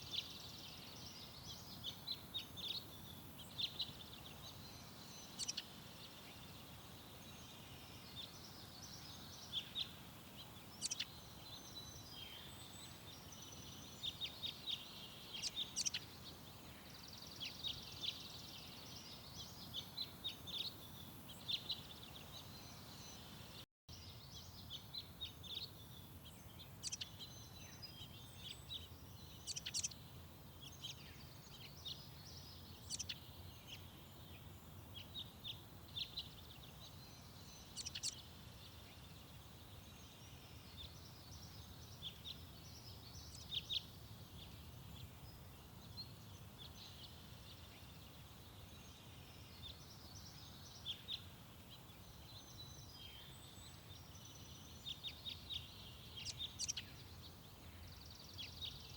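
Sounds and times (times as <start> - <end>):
songbirds chirping: 0.0 - 58.9.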